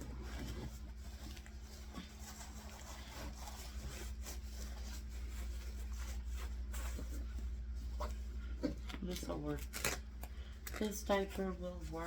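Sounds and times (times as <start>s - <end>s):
diaper rustling and crinkling: 0.0s - 12.0s
steady low hum: 0.0s - 12.0s.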